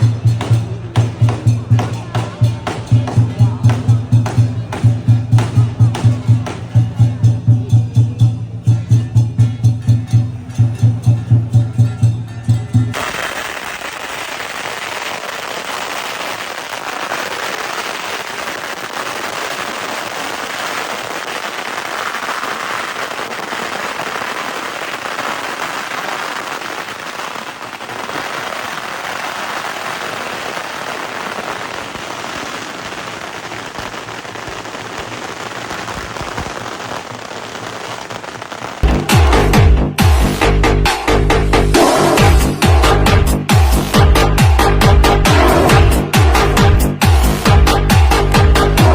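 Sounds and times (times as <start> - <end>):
fireworks crackling: 0.0 - 48.9.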